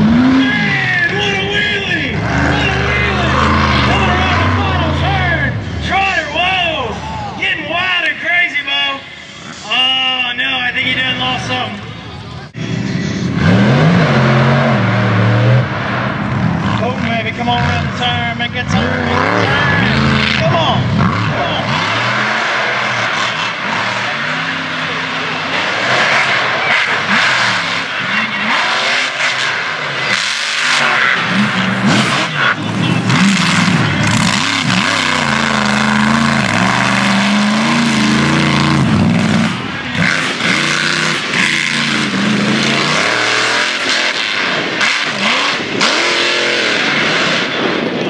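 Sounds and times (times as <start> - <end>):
truck engine revving hard: 0.0 - 7.2, 12.5 - 48.0.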